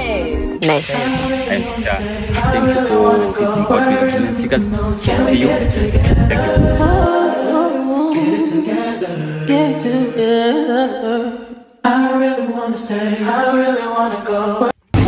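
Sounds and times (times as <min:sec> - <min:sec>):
voices singing a cappella: 0:00.0 - 0:14.8.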